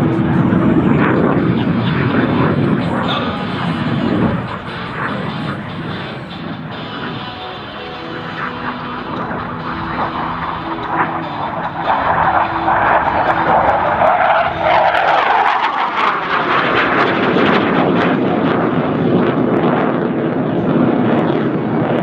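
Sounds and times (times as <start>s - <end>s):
jet passing with loud roar: 0.0s - 22.0s.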